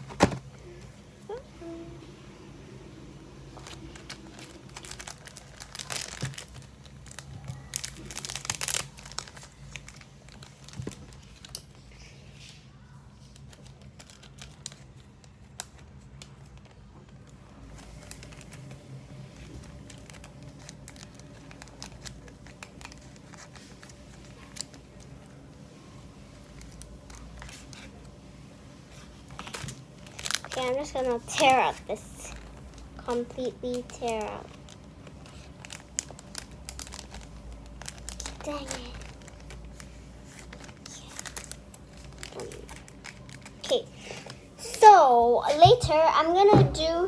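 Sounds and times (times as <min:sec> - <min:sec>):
packaging crinkling: 0:02.8 - 0:28.2, 0:28.8 - 0:47.0.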